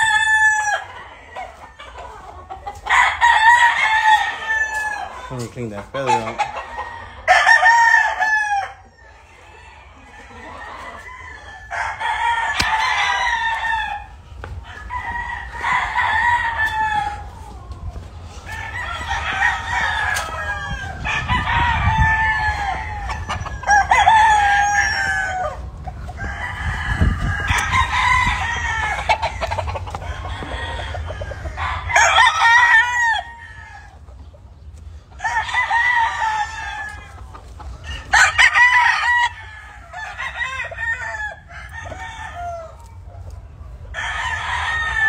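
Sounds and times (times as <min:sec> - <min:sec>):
roosters crowing: 0:00.0 - 0:45.0.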